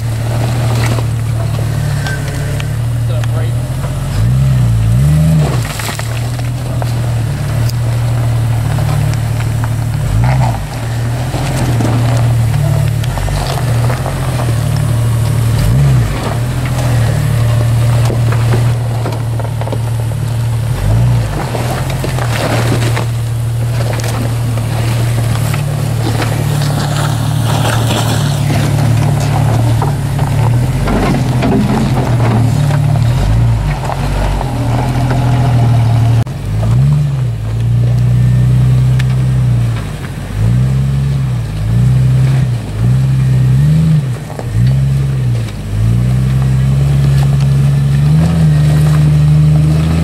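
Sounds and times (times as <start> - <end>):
engine running at low revs: 0.0 - 50.0.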